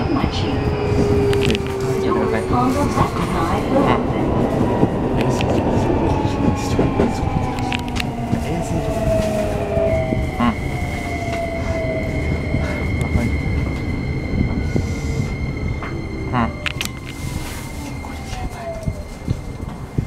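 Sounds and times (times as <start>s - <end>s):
rail joint clicks: 0.0s - 20.0s
steady higher tone: 0.0s - 20.0s
wheel and rail rumble: 0.0s - 20.0s.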